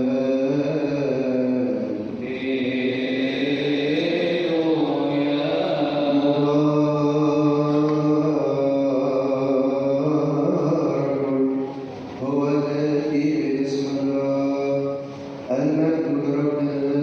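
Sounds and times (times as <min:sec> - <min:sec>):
priest chanting: 0:00.0 - 0:17.0.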